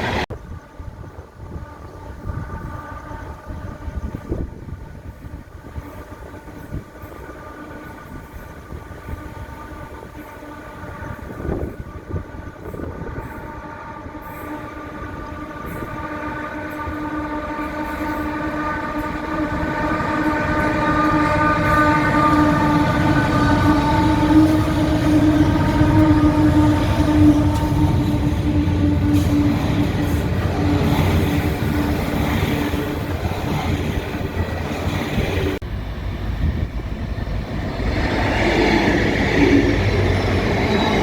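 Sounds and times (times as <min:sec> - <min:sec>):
diesel train engine drone: 0:00.0 - 0:41.0.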